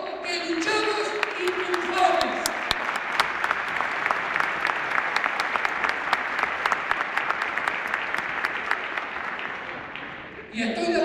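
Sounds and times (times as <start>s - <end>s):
audience applauding: 0.2s - 10.5s.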